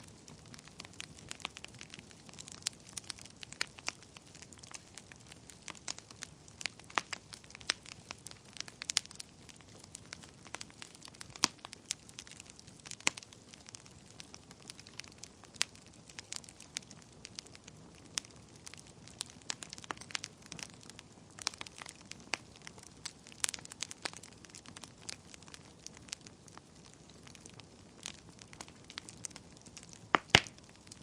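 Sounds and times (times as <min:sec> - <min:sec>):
burning logs crackling: 0:00.0 - 0:31.0.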